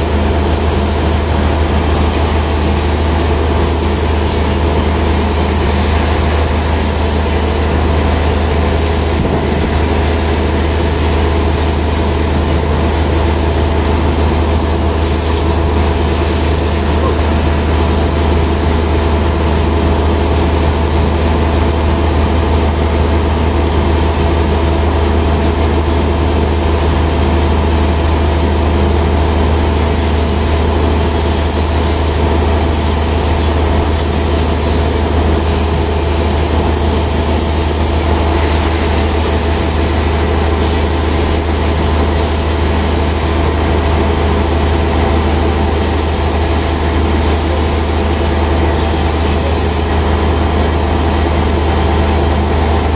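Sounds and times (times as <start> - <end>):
sawmill machinery humming and whining: 0.0 - 52.9.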